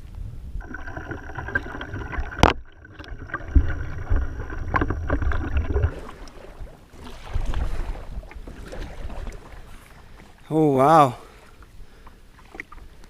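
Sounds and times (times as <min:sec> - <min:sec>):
wind rumbling on microphone: 0:00.0 - 0:10.5
water sounds: 0:00.6 - 0:13.0
gear handling on hull: 0:00.9 - 0:13.0.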